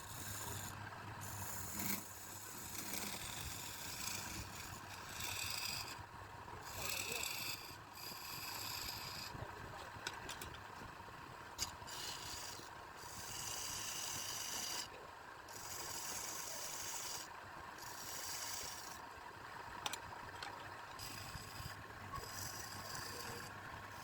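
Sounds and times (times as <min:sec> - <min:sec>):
tool rasping on spinning wood: 0:00.0 - 0:09.5, 0:11.6 - 0:14.9, 0:15.5 - 0:19.0, 0:20.5 - 0:24.0
wood lathe humming: 0:00.0 - 0:09.6, 0:11.6 - 0:19.1, 0:19.8 - 0:24.0.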